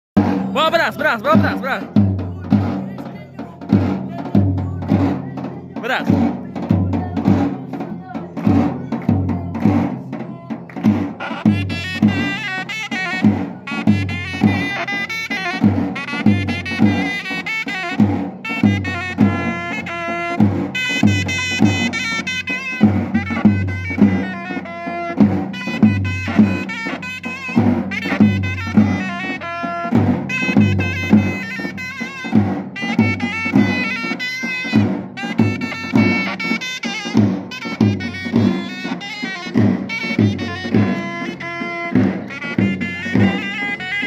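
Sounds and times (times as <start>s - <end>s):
drum beat: 0.2s - 44.0s
shawm playing dance melody: 0.2s - 44.0s.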